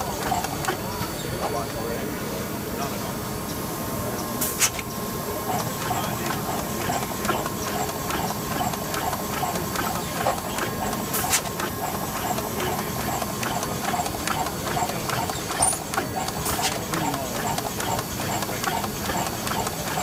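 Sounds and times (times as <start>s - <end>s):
rhythmic mechanical clacking: 0.0s - 2.0s, 4.4s - 20.0s
machine hum: 0.0s - 20.0s.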